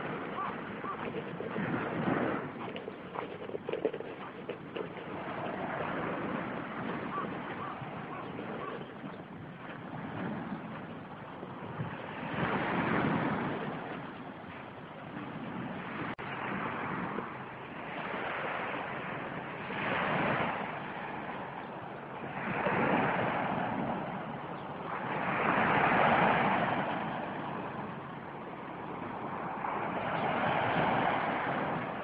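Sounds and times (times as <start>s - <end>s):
small waves on sandy beach: 0.0s - 32.0s.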